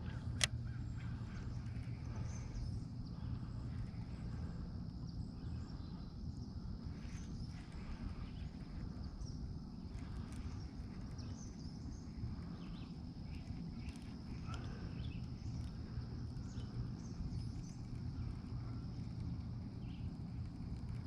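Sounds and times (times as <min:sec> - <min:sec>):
faint bird chirps: 0:00.0 - 0:20.9
wind: 0:00.0 - 0:21.0.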